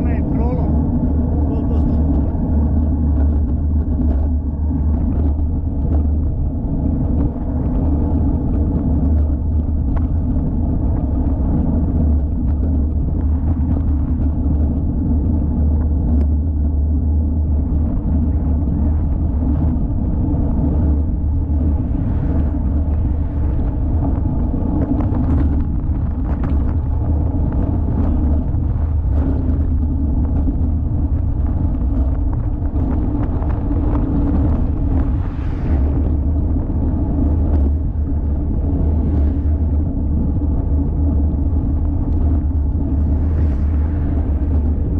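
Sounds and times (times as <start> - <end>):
bicycle rolling over pavement: 0.0 - 44.9.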